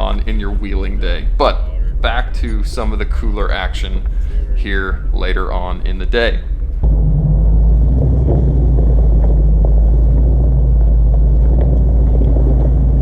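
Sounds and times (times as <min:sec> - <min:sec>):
off-road vehicle engine rumble: 0:00.0 - 0:13.0
wind buffeting microphone: 0:00.0 - 0:13.0.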